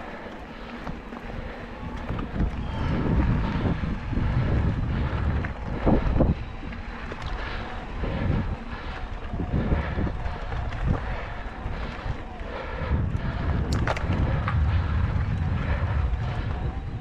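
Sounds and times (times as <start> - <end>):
bike tyres rumbling on dirt: 0.0 - 17.0
wind on microphone: 1.2 - 17.0.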